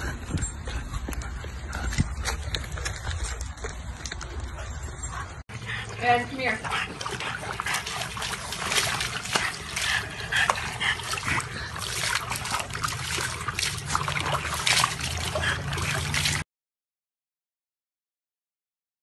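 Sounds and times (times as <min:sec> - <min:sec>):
water splashing and trickling: 0:00.0 - 0:16.5.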